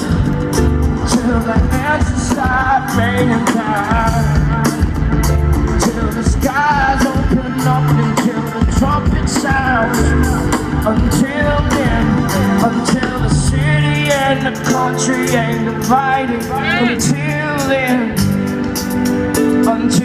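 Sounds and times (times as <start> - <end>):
bass guitar: 0.0 - 20.0
lead vocal singing: 0.9 - 18.4.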